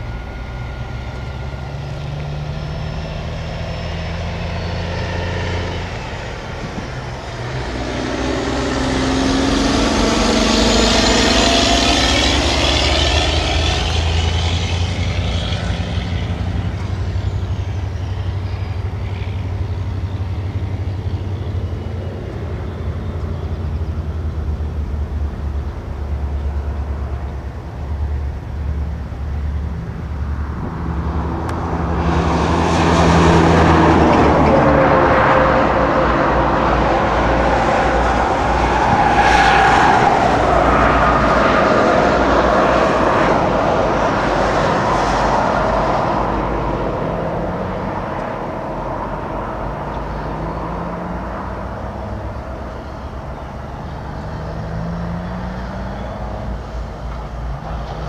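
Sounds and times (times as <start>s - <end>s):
wavering high-pitched tones: 0.0s - 47.4s
diesel locomotive engine drone: 0.0s - 58.0s.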